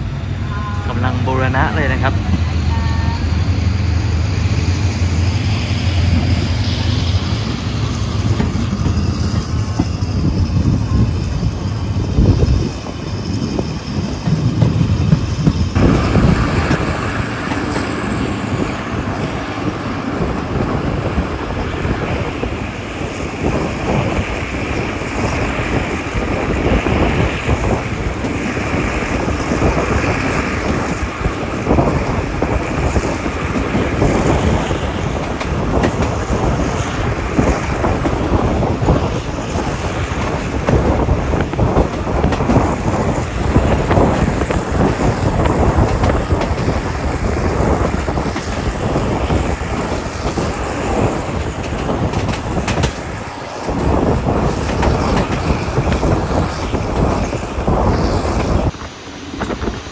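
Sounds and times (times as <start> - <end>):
train rumbling at speed: 0.0 - 59.9.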